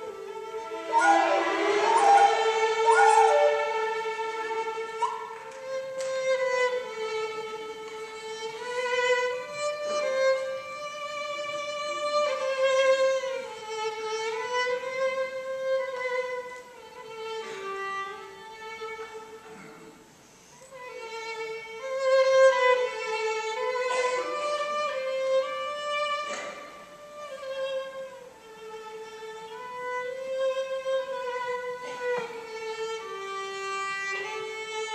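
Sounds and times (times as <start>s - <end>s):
solo violin melody: 0.0s - 19.5s, 20.5s - 34.9s.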